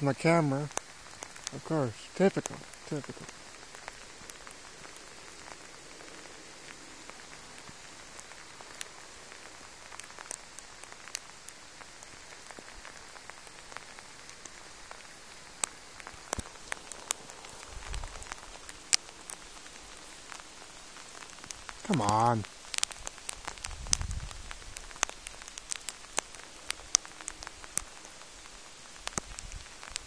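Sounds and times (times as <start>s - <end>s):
light rain hissing: 0.0s - 30.0s
rain drop ticks: 0.0s - 30.0s.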